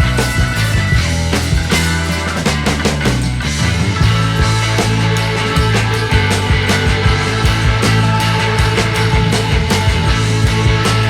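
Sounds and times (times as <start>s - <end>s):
rock music with drum beat: 0.0s - 11.0s.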